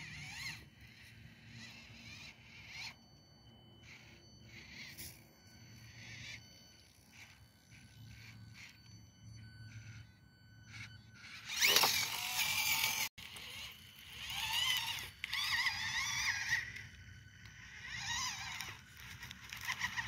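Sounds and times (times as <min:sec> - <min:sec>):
small motor and gears whining: 0:00.0 - 0:20.0.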